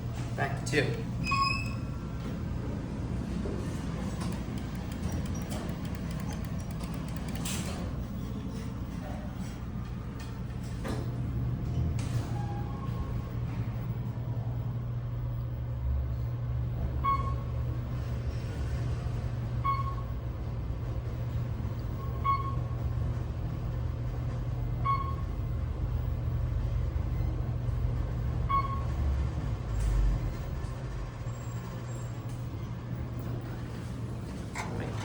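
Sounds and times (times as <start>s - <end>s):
elevator hum: 0.0s - 35.0s.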